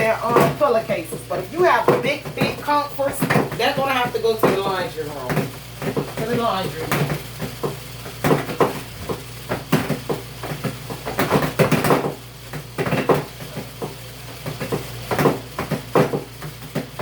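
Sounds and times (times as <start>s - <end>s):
objects clattering and knocking: 0.2s - 17.0s.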